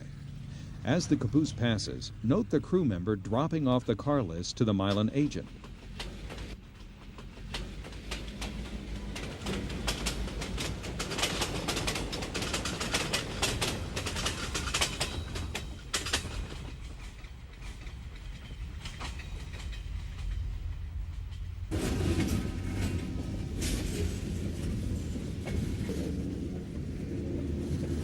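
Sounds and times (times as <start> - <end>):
freight train cars rolling: 0.0 - 28.0
wheels clicking over rail joints: 0.1 - 28.0.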